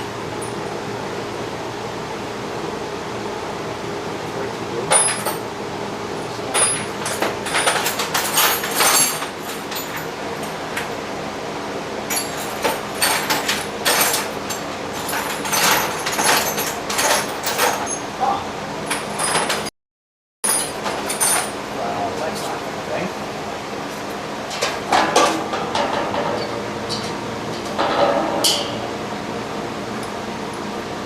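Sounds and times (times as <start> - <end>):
steady background hum: 0.0 - 19.7, 20.5 - 31.0.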